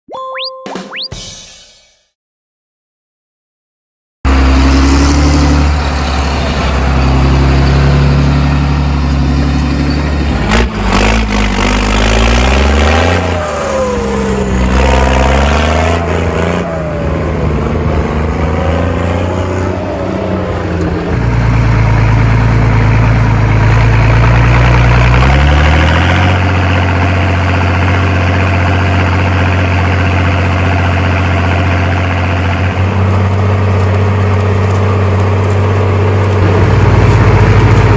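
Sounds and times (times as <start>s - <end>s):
engine revving: 4.3s - 37.9s.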